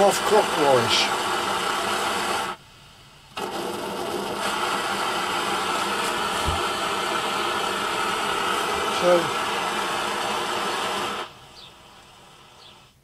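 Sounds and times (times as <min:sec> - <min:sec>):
pressure stove burner roaring: 0:00.0 - 0:13.0.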